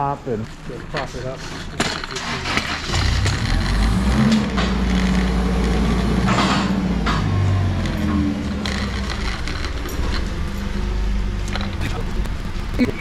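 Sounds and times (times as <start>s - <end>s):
forklift engine running: 2.1s - 13.0s.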